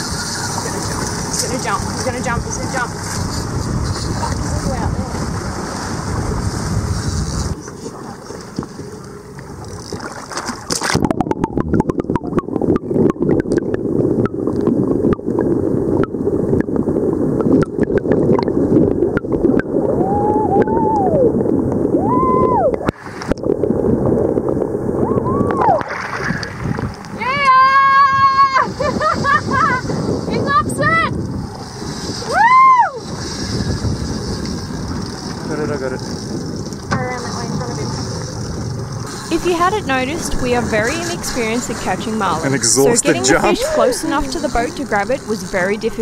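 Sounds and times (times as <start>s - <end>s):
crackling underwater noise: 0.0s - 27.2s, 33.0s - 42.7s, 43.9s - 46.0s
wind buffeting microphone: 0.0s - 46.0s.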